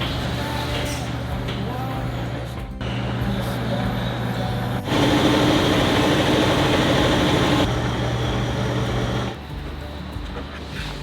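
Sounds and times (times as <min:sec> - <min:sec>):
loud mechanical whir: 0:00.0 - 0:11.0.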